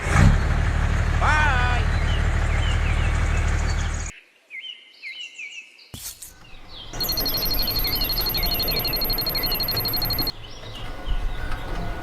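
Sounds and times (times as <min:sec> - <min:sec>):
small birds chirping: 0:01.8 - 0:12.0.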